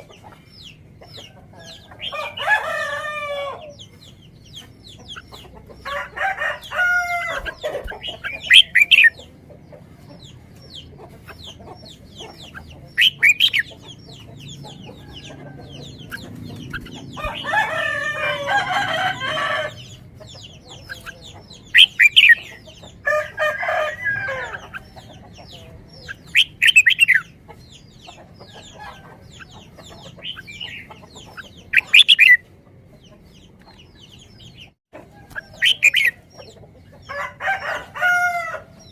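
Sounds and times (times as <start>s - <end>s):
chicken drawn-out calls: 0.0s - 27.4s, 34.5s - 38.9s
chickens clucking: 0.0s - 38.9s.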